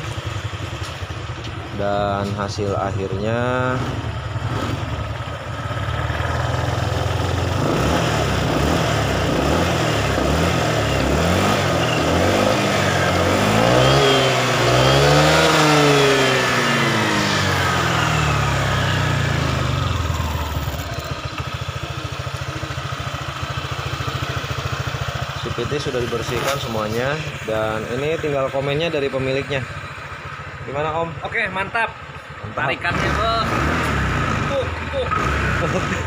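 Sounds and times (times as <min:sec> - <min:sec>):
scooter engine idling and revving: 0:00.0 - 0:36.0.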